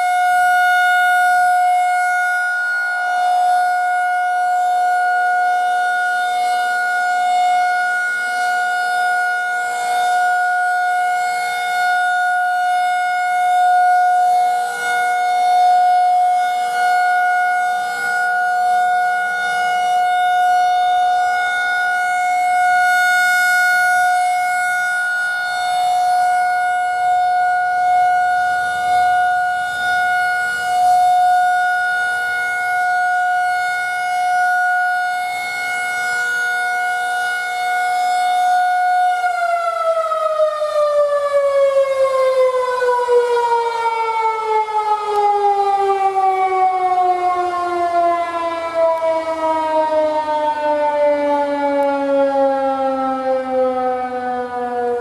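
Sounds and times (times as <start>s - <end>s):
rotating warning siren: 0.0s - 55.0s.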